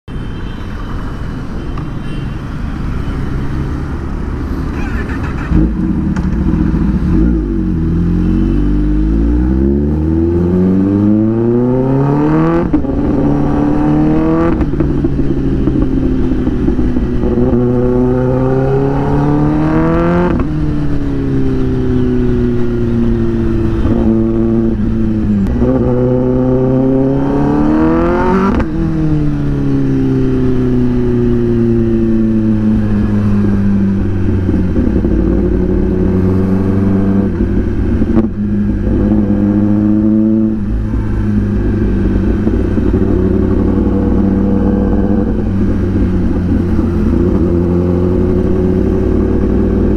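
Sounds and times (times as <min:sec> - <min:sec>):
motorcycle engine accelerating: 0:03.7 - 0:49.9.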